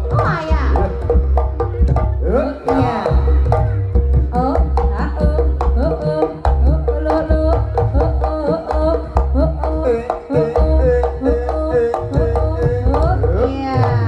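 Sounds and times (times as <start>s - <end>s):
rapid hand-drum strokes: 0.0s - 14.0s.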